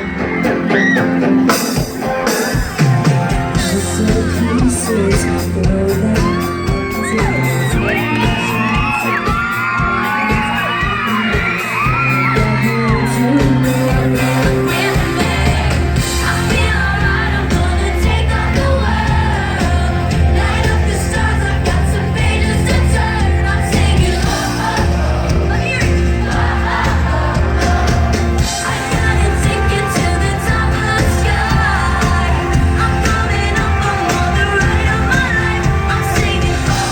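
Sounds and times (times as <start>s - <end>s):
crowd screaming and cheering: 0.0s - 36.9s
live pop band: 0.0s - 36.9s
heavy bass line: 2.7s - 36.9s.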